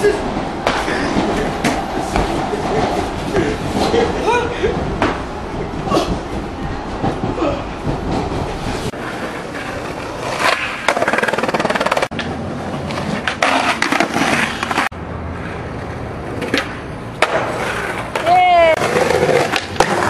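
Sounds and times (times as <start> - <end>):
skateboard clacks and scrapes: 0.0 - 20.0
skateboard wheels rolling on concrete: 0.0 - 20.0.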